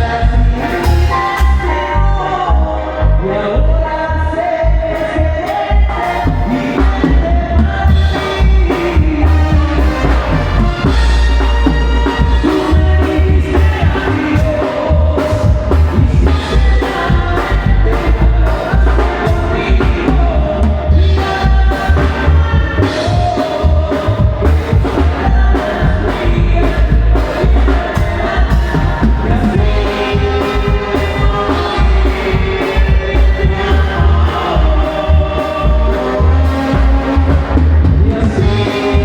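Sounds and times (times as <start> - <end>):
heavy pulsing bass and drums: 0.0 - 39.0
live band through a pa: 0.0 - 39.0
person singing: 0.0 - 39.0.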